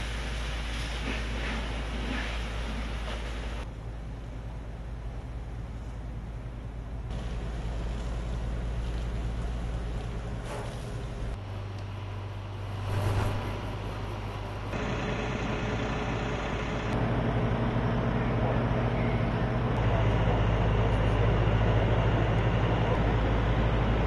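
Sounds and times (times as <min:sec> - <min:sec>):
fire engine engines droning: 0:03.2 - 0:24.0.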